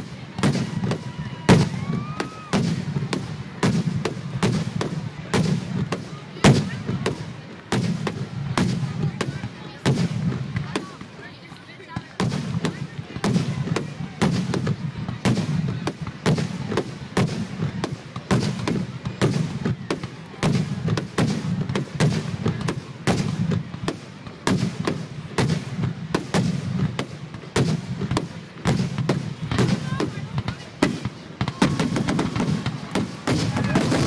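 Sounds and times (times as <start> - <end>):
fireworks booming and cracking: 0.0 - 34.0.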